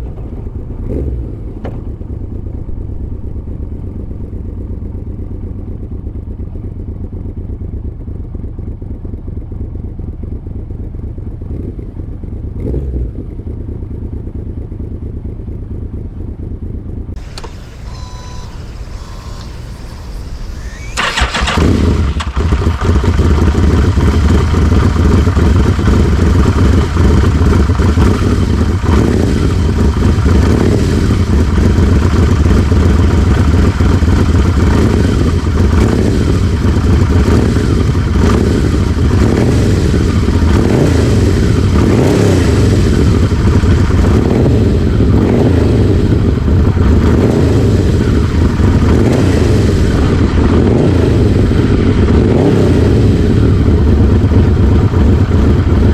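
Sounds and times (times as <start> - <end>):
motorcycle engine exhaust note: 0.0 - 55.9.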